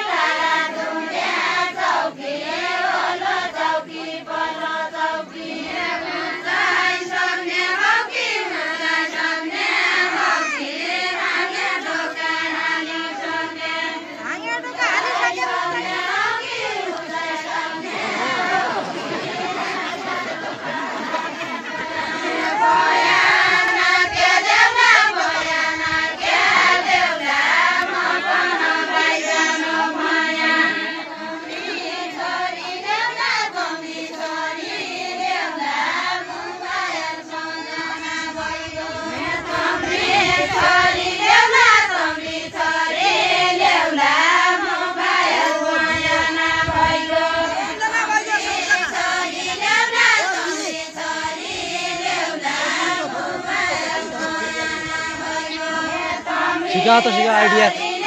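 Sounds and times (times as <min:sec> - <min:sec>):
group singing folk song in chorus: 0:00.0 - 0:58.0.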